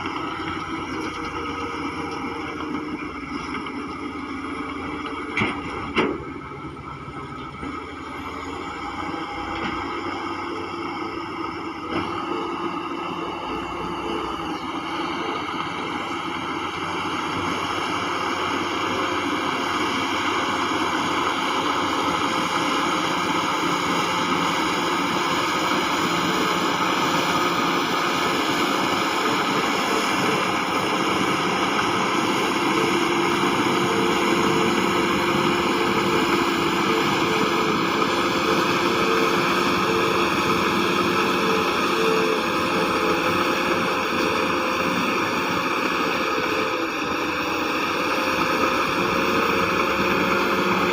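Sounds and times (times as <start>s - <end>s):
heavy diesel machinery engine drone: 0.0s - 50.9s.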